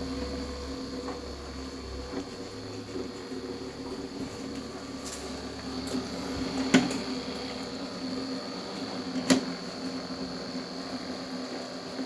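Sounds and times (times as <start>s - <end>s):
faint high whine: 0.0s - 12.0s
steady low hum: 0.0s - 12.0s.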